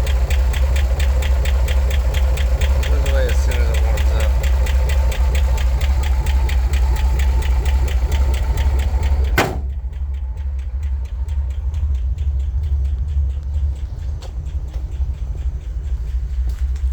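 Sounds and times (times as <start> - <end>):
car engine idling: 0.0 - 16.9
rapid lifter ticking: 0.0 - 16.9.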